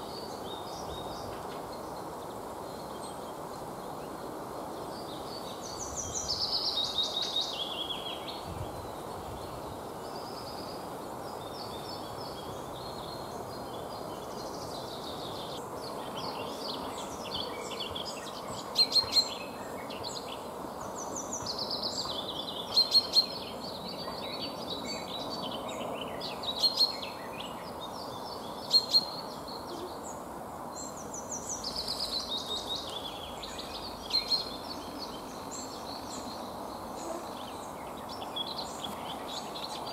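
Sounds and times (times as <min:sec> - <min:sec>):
low background hiss: 0:00.0 - 0:39.9
birds twittering: 0:04.8 - 0:39.9.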